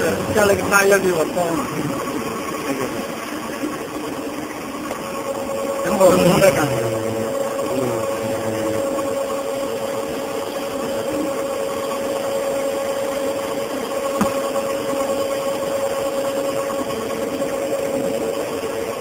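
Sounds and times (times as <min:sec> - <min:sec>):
machine humming and whining: 0:00.0 - 0:19.0.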